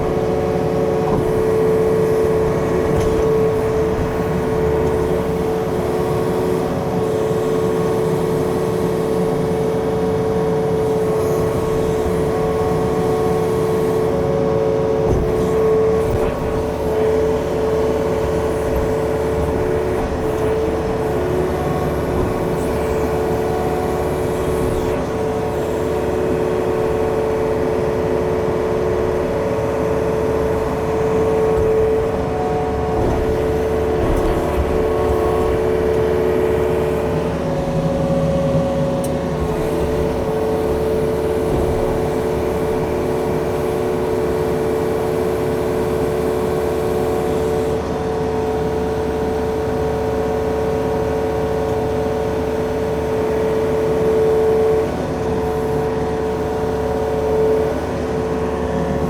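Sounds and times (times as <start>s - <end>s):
diesel engine running with whine: 0.0s - 59.0s.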